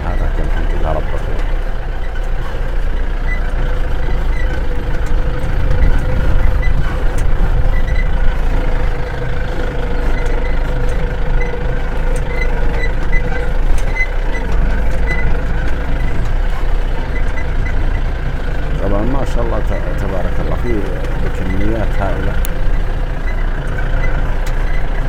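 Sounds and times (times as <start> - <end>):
high squeaks: 0.0 - 25.0
vehicle engine drone: 0.0 - 25.0.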